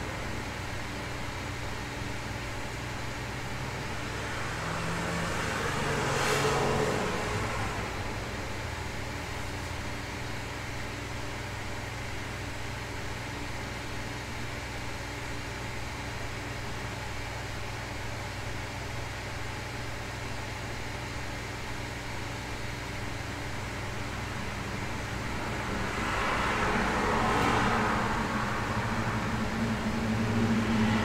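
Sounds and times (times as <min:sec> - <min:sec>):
low constant hum: 0:00.0 - 0:31.0.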